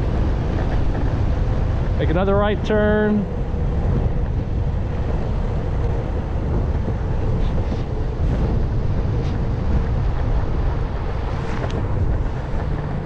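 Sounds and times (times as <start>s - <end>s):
skateboard wheels rolling on asphalt: 0.0s - 13.0s
wind buffeting microphone: 0.0s - 13.0s.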